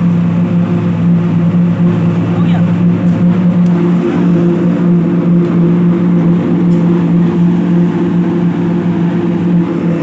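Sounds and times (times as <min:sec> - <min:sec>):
engine droning steadily: 0:00.0 - 0:10.0.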